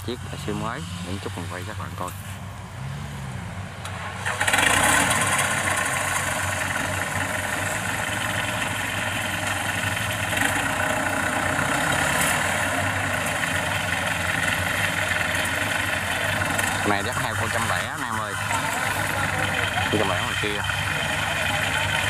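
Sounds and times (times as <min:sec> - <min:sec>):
tracked carrier engine running: 0:00.0 - 0:22.0.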